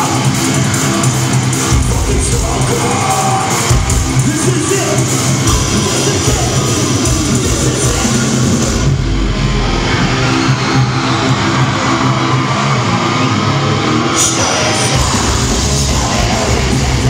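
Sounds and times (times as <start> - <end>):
bass guitar: 0.0 - 17.0
distorted guitars: 0.0 - 17.0
drums: 0.0 - 17.0.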